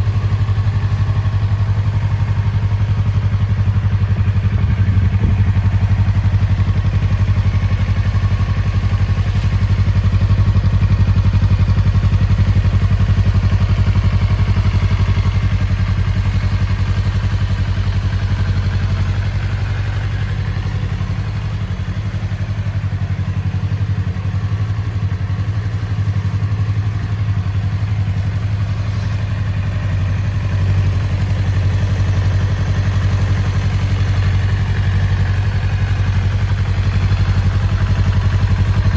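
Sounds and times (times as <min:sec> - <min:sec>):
motorcycle engine idling low: 0:00.0 - 0:38.9.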